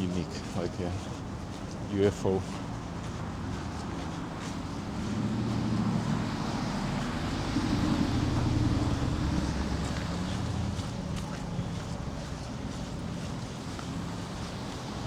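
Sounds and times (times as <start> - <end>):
vehicle engine passing by: 2.7 - 15.0.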